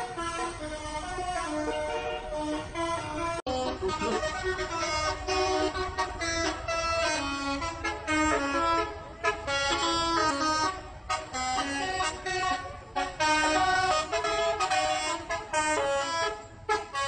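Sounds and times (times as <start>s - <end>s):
bus air horns playing tune: 0.0s - 17.0s
traffic rumble: 0.0s - 17.0s.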